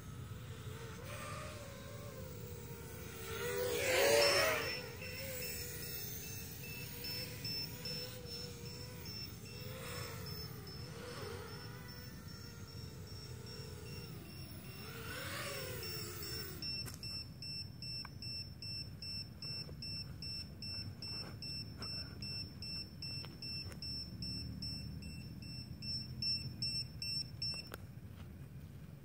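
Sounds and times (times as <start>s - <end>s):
quadcopter motors whining: 0.0s - 27.7s
high-pitched buzzer beeps: 2.0s - 27.8s.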